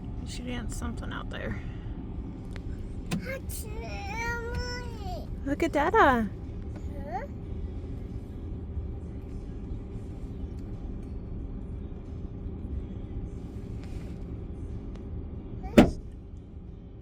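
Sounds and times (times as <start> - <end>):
idling engine rumble: 0.0 - 17.0.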